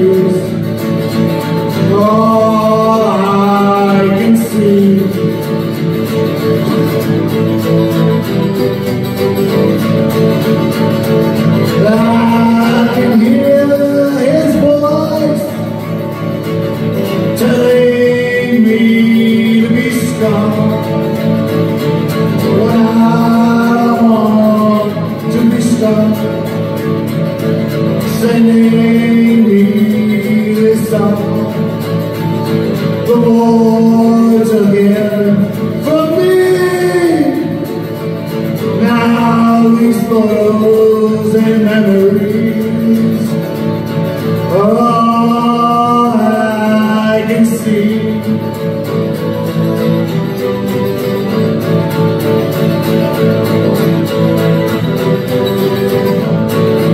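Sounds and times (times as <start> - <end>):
man singing: 0.0 - 56.9
strummed acoustic guitar: 0.0 - 56.9.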